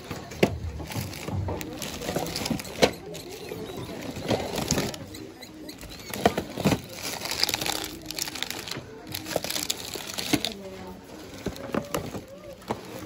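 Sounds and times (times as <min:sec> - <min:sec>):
plastic bags crinkling: 0:00.2 - 0:13.0.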